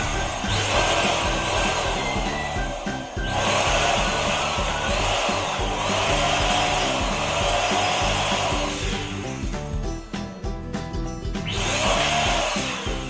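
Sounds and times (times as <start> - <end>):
balloon inflator blowing air: 0.0 - 10.4, 11.2 - 13.0
background music: 0.0 - 13.0.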